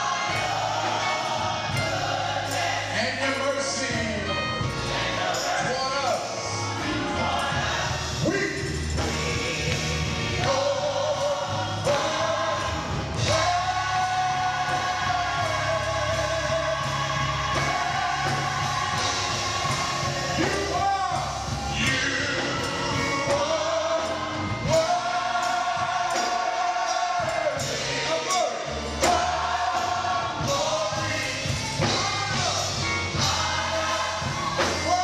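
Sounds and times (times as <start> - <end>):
gospel choir singing: 0.0 - 35.0
instrumental accompaniment with bass: 0.0 - 35.0.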